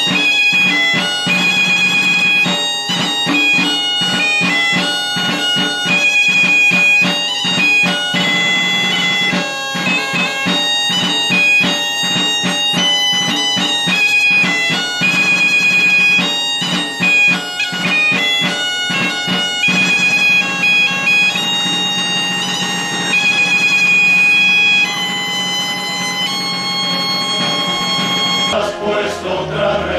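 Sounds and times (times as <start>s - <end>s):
bagpipe drone: 0.0s - 29.9s
bagpipe playing a fast tune: 0.0s - 29.9s.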